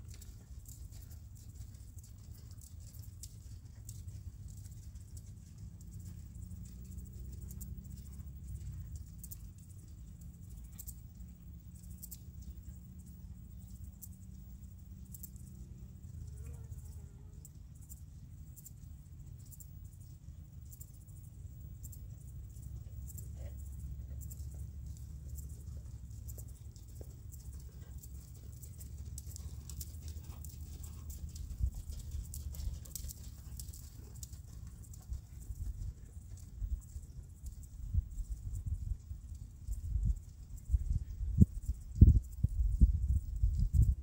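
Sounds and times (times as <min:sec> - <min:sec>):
horse trotting on sand: 0:00.0 - 0:44.0
low steady rumble: 0:00.0 - 0:44.0.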